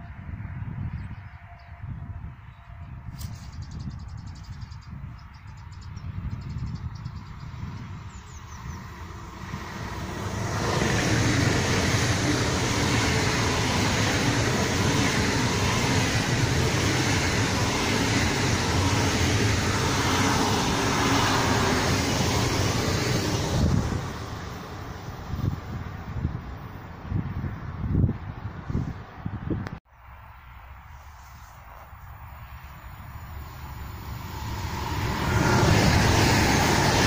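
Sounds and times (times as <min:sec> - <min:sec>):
wind on microphone: 0:00.0 - 0:29.8, 0:33.6 - 0:37.0
high-speed train passing: 0:00.0 - 0:37.0.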